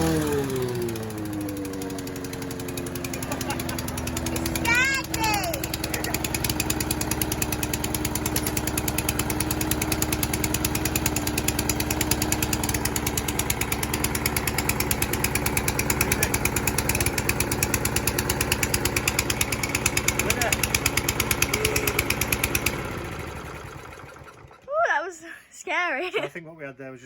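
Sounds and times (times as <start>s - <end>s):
lawn mower engine running: 0.0s - 25.1s.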